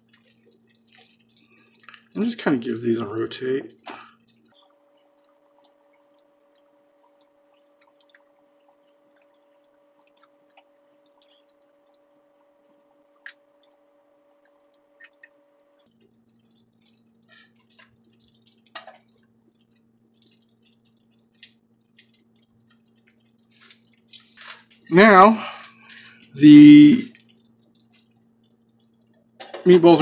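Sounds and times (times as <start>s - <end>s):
gravy bubbling in a skillet: 0.0s - 30.0s.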